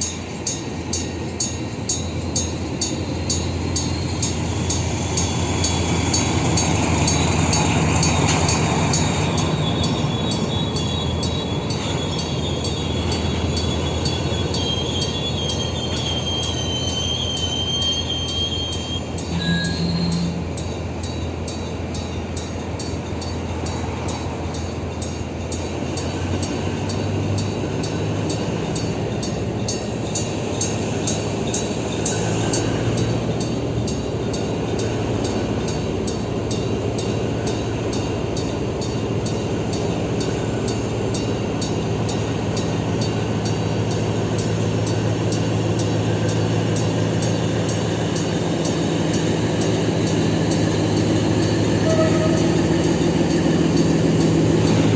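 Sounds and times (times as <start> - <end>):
diesel locomotive engine droning: 0.0 - 54.9.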